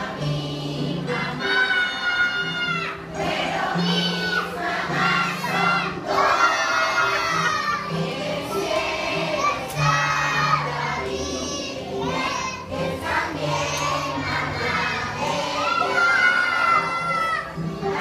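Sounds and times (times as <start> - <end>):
children singing and shouting: 0.0 - 18.0.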